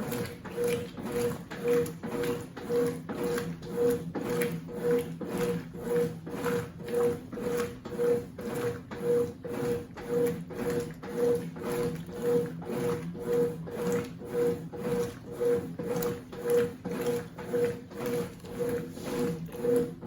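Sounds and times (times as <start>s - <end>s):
washing machine agitating: 0.0s - 20.0s.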